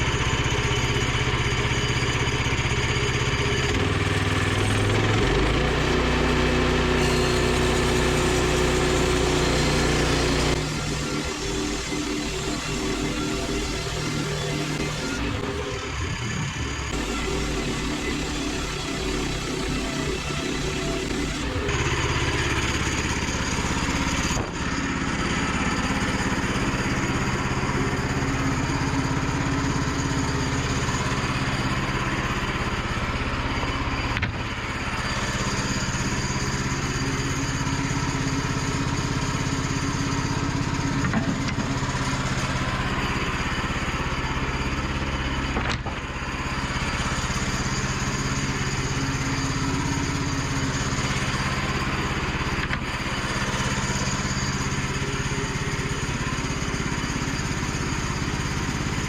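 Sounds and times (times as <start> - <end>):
sawmill gasoline engine running: 0.0 - 59.0.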